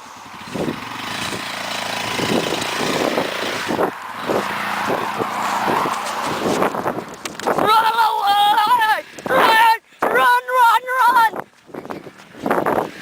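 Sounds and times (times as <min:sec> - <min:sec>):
atv engine under throttle: 0:00.0 - 0:10.2, 0:11.4 - 0:13.0.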